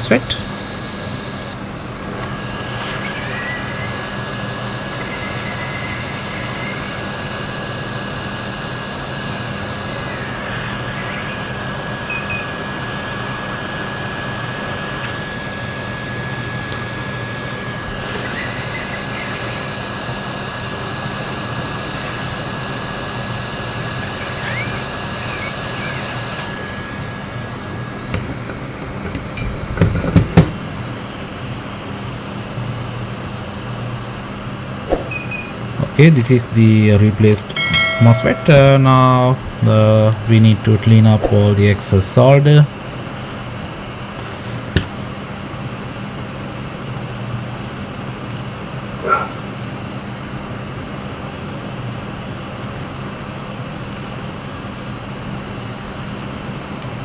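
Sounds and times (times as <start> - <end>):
hot air blower with high whine: 0.0 - 57.0.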